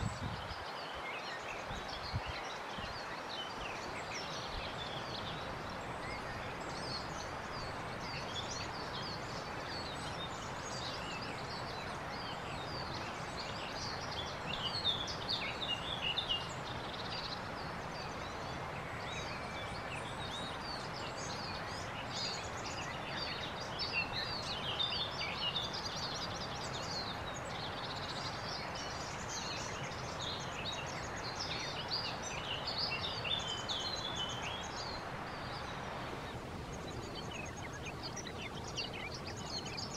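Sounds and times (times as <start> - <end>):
outdoor background hiss: 0.0 - 39.9
songbirds twittering: 0.0 - 39.9.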